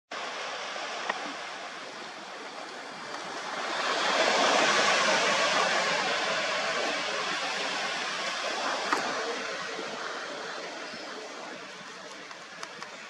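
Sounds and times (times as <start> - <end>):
sea waves washing on a beach: 0.1 - 13.0
wind: 0.1 - 13.0.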